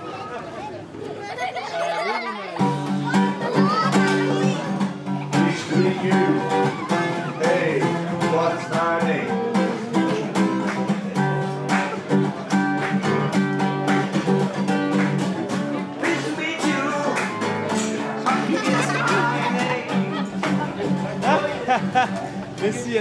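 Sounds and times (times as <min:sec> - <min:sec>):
acoustic guitar strumming: 0:02.6 - 0:23.0.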